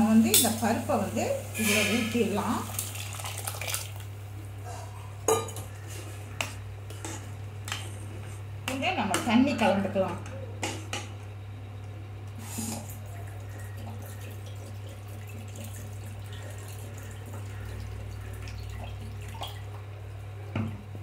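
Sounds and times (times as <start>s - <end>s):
steady low hum: 3.9s - 21.0s.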